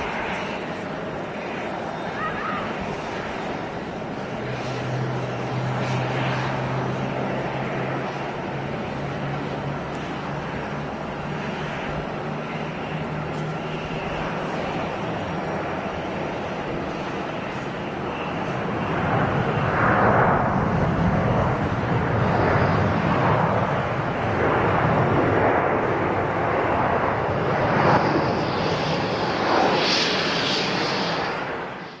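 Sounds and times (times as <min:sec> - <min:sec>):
distant jet engine roar: 0:00.0 - 0:32.0.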